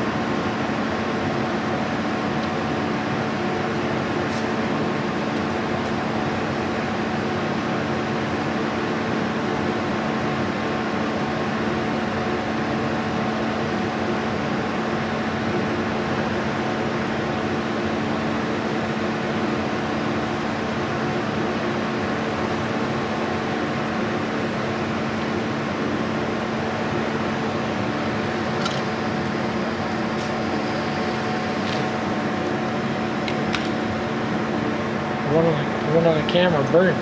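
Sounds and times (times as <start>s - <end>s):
blowtorch hissing: 0.0s - 33.8s.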